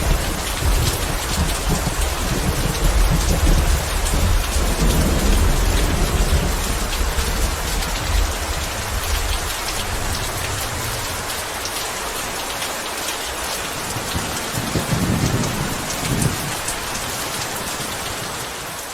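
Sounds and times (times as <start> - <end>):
thunder rumbling: 0.0 - 12.4, 13.3 - 18.6
heavy rain hissing: 0.0 - 18.9.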